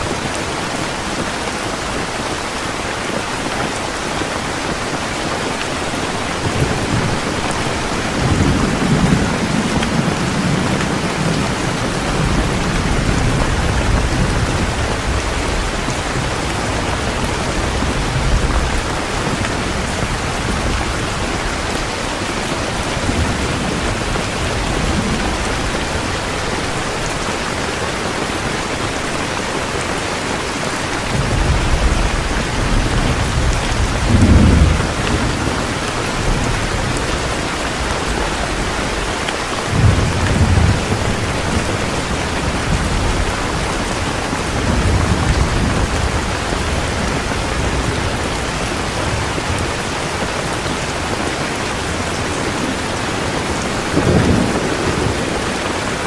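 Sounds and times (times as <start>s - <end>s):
heavy rain: 0.0s - 56.0s
thunder rumbling: 4.4s - 29.8s, 30.8s - 56.0s.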